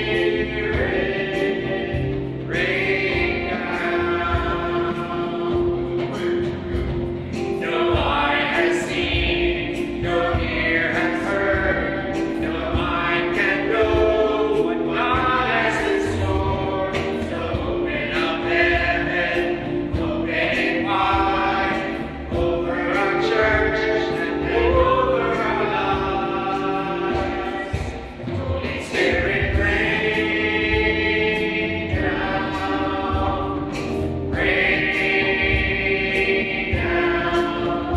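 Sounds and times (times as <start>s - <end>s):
group singing worship song: 0.0s - 37.9s
low beat: 0.0s - 37.9s.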